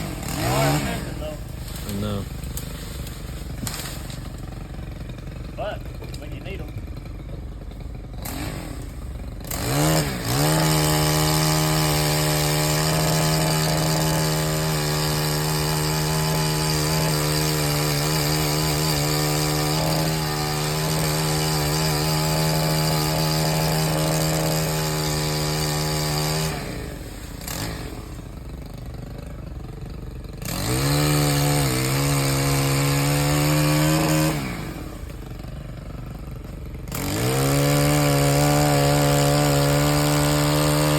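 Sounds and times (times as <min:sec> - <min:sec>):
small gas engine revving: 0:00.0 - 0:40.9.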